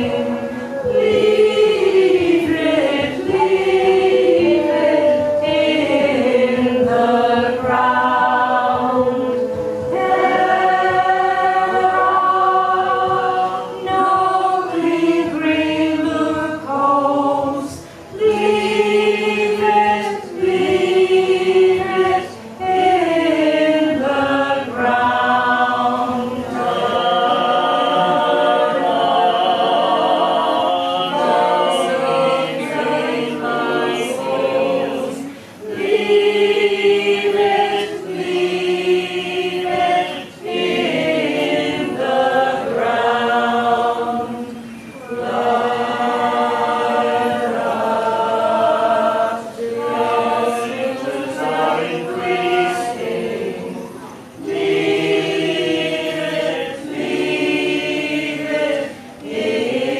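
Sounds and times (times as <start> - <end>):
group singing unaccompanied: 0.0 - 59.9.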